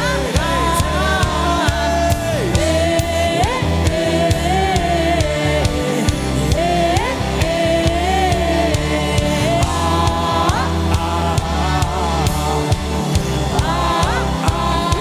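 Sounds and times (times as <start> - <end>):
gospel band music: 0.0 - 15.0
people singing: 0.0 - 15.0.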